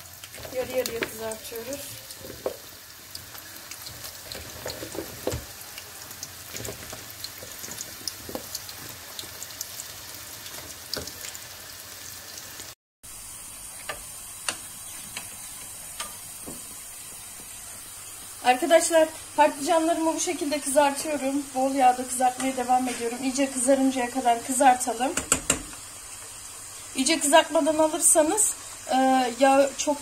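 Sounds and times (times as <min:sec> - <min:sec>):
eggplant sizzling in oil: 0:00.0 - 0:30.0.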